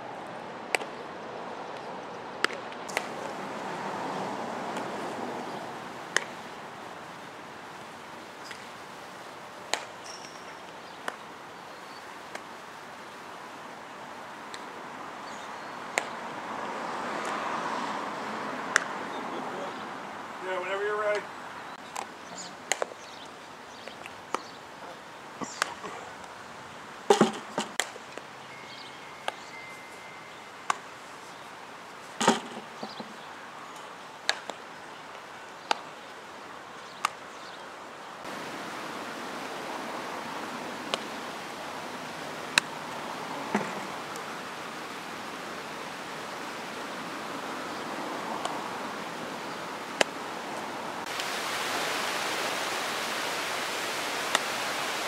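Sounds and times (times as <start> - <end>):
wind hiss on microphone: 2.9 - 32.2, 38.2 - 55.0.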